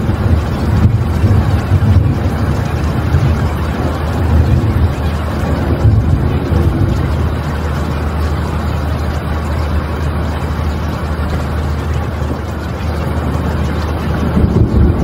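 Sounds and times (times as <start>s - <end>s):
ocean water washing: 0.0s - 15.0s.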